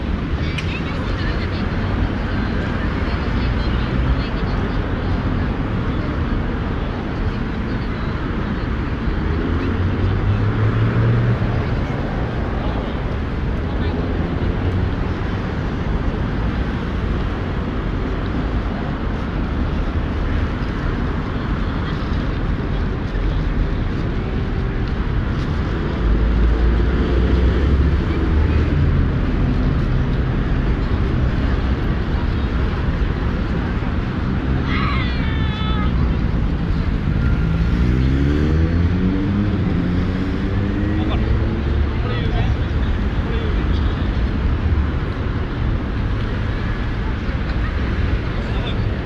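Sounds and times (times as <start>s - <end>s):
passing road traffic: 0.0s - 49.0s.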